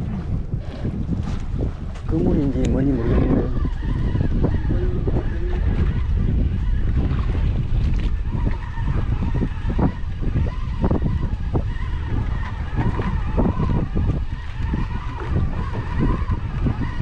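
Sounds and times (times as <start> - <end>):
waves splashing against boat: 0.0 - 17.0
wind buffeting microphone: 0.0 - 17.0.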